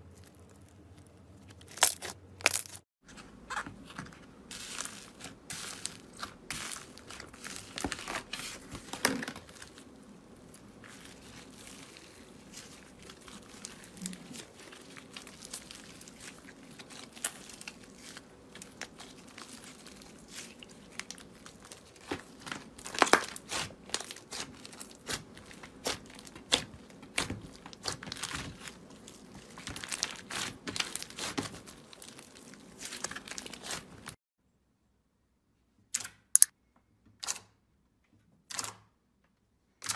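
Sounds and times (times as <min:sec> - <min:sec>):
slime crunching and popping by hand: 0:00.0 - 0:02.8, 0:04.6 - 0:34.2.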